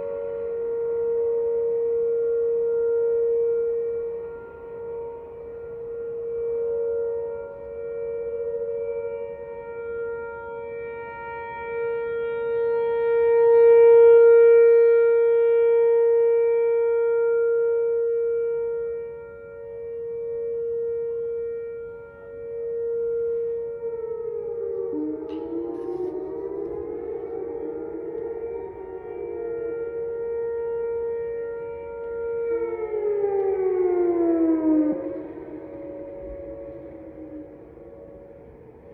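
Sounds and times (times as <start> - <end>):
tornado warning siren: 0.0 - 38.9.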